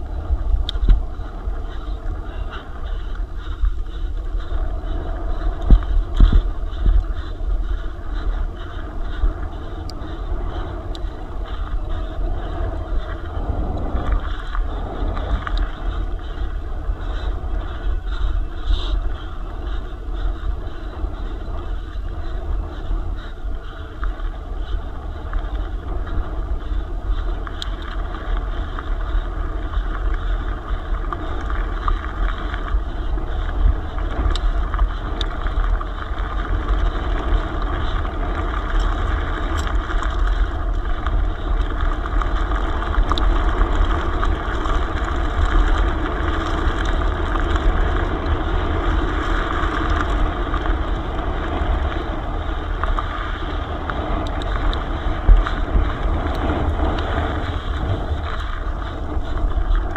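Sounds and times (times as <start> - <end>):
tyre and bike noise: 0.0 - 59.9
wind buffeting microphone: 0.0 - 59.9.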